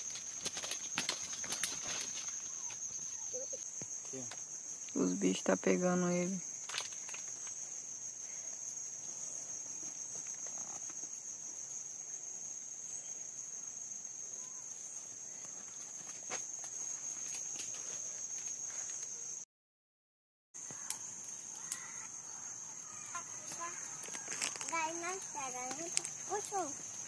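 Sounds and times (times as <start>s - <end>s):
crickets trilling: 0.0s - 19.4s, 20.6s - 27.0s.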